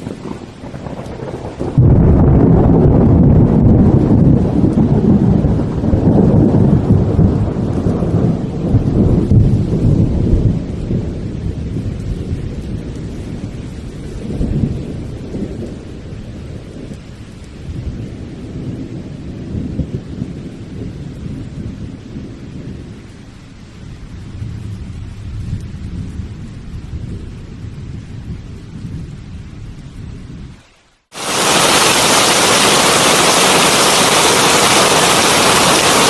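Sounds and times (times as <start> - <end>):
heavy rain hissing: 0.0 - 28.4, 29.0 - 36.0
thunder rumbling: 0.0 - 30.6, 31.2 - 36.0.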